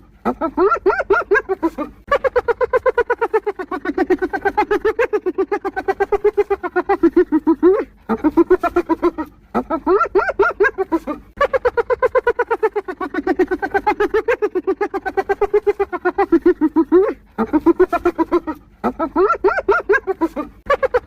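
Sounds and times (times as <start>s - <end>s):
hyena giggling: 0.0s - 21.0s.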